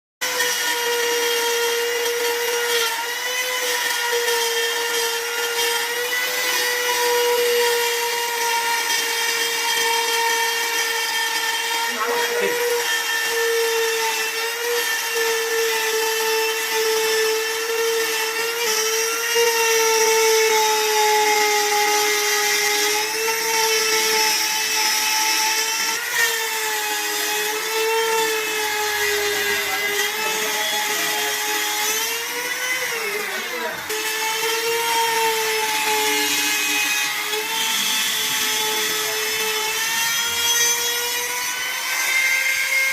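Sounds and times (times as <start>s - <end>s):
router motor whining: 0.2s - 42.9s.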